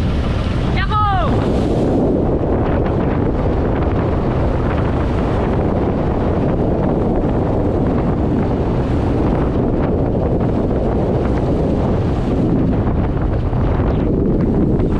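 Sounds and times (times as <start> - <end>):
water rushing along hulls: 0.0 - 14.9
wind on microphone: 0.0 - 14.9.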